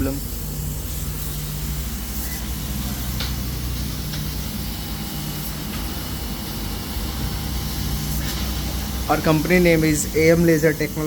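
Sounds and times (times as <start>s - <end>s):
machine equipment hum and hiss: 0.0s - 11.0s.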